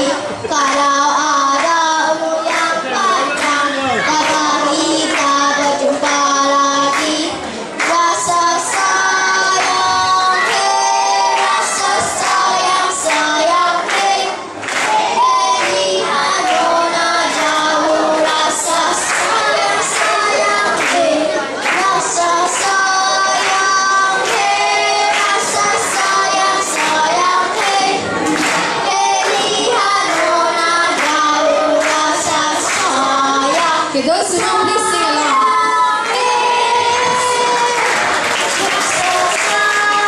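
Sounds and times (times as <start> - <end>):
children singing into microphones: 0.0 - 40.0.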